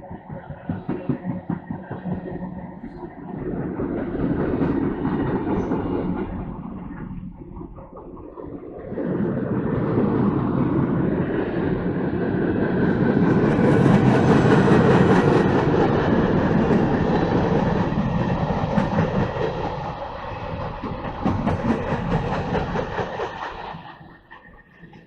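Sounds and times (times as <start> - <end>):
freight train wheels rolling on rails: 0.0 - 25.0.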